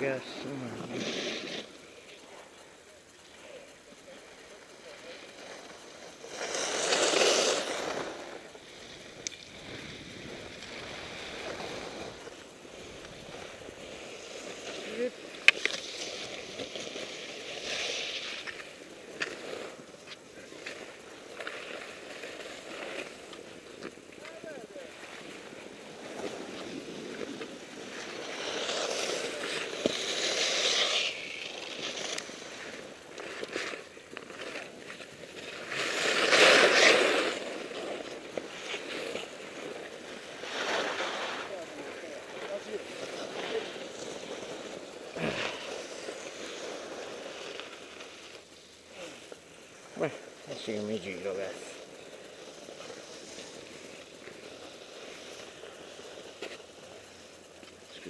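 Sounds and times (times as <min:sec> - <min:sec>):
skis hissing over snow: 0:00.0 - 0:58.0.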